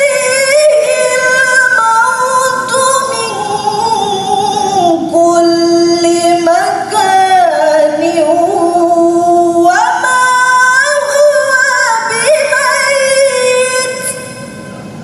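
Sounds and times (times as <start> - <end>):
woman chanting into a microphone: 0.0 - 14.6.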